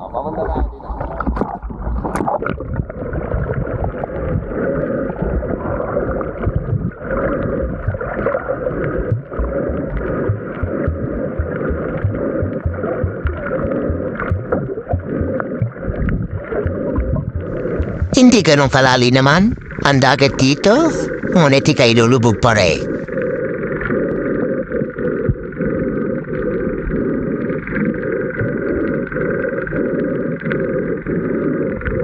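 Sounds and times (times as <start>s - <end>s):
churning water and bubbles underwater: 0.0s - 32.0s.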